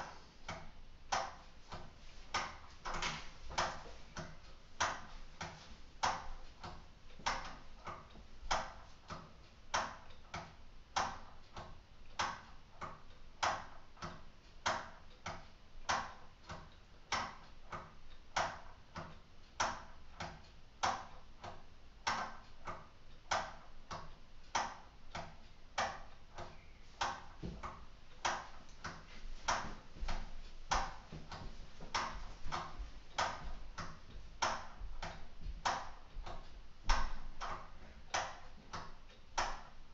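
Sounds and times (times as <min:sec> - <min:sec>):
clock ticking with plastic clicks: 0:00.0 - 0:39.9.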